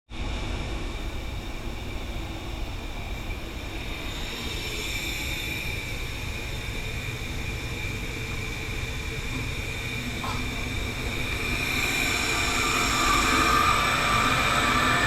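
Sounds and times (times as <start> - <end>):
air compressor drone with whine: 0.2 - 15.0.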